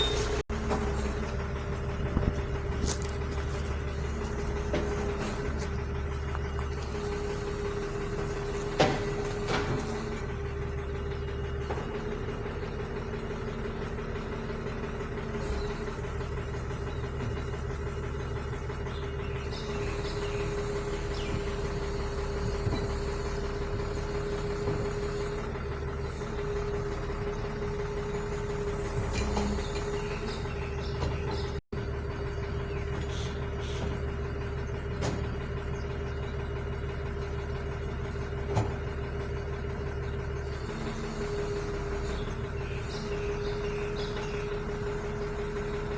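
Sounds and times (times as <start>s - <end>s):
heavy vehicle engine idling: 0.0s - 45.9s.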